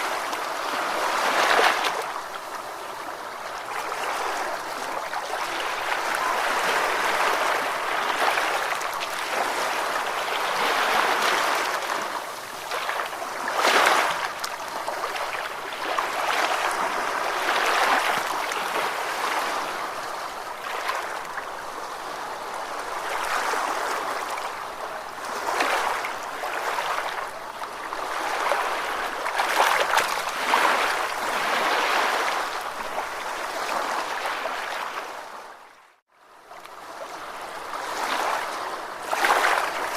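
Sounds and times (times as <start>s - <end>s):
ocean waves surf: 0.0s - 39.9s.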